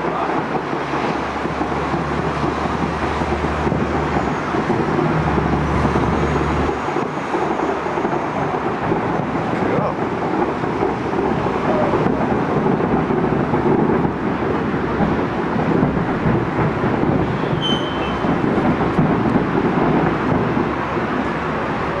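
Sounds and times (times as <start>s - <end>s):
distant fireworks rumble: 0.0s - 22.0s.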